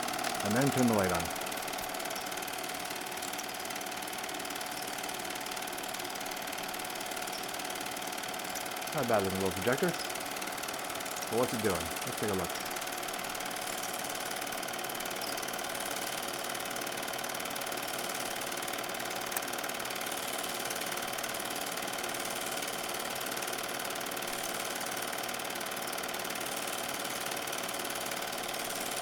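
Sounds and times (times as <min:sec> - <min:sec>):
film-advance mechanism clatter: 0:00.0 - 0:25.5
film projector motor hum: 0:00.0 - 0:29.0.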